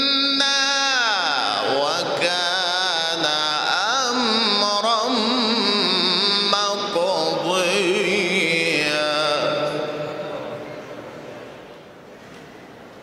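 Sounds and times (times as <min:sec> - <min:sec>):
man chanting melodically: 0:00.0 - 0:11.4.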